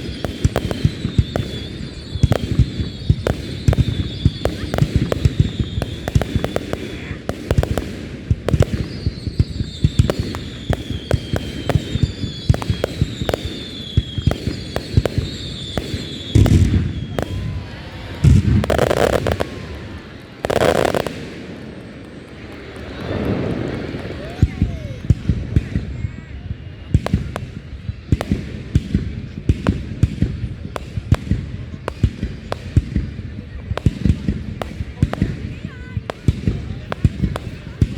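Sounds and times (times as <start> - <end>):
fireworks crackling pops: 0.0 - 37.9
loud firework bursts: 0.0 - 37.9
whistling firework shells: 0.0 - 37.9.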